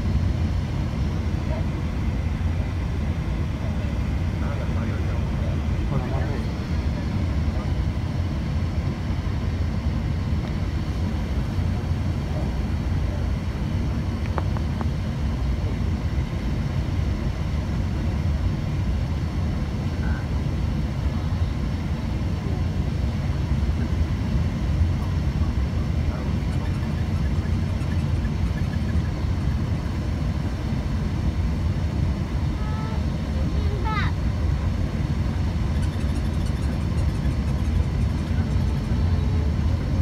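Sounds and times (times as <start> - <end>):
aircraft cabin engine rumble: 0.0 - 40.0.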